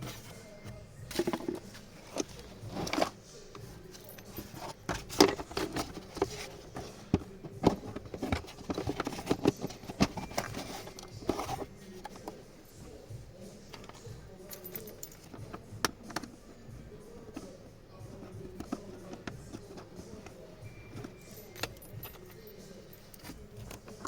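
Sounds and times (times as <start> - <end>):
parts clicking and rattling: 0.0 - 24.0.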